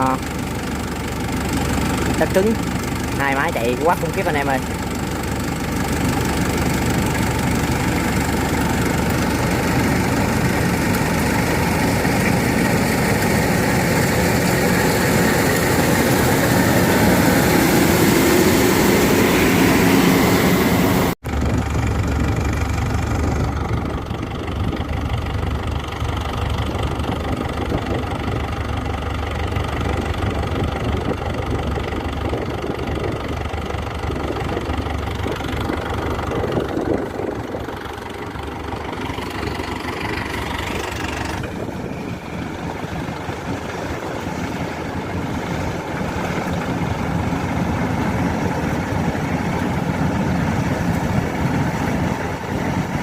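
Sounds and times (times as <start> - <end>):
combine harvester diesel engines: 0.0 - 53.0.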